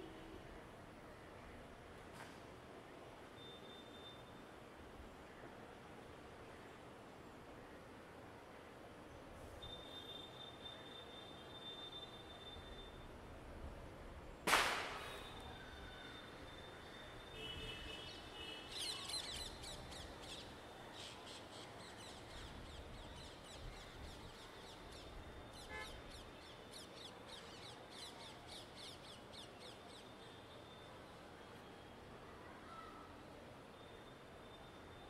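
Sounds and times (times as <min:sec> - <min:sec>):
distant city traffic hum: 0:00.0 - 0:35.0.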